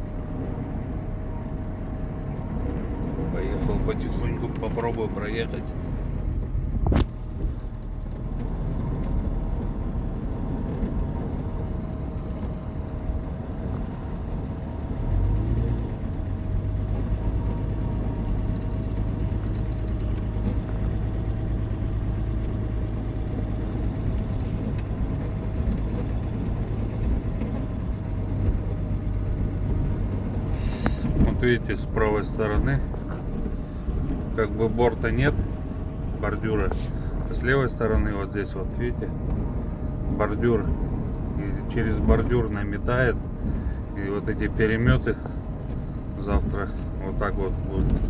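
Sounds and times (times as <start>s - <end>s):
deeper steady hum: 0.0s - 48.0s
engine and tyre rumble: 0.0s - 48.0s.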